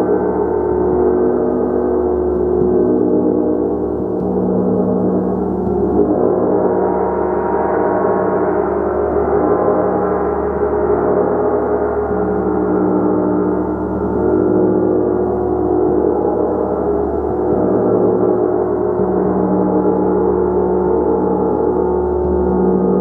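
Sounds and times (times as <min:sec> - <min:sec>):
gong played continuously: 0:00.0 - 0:23.0.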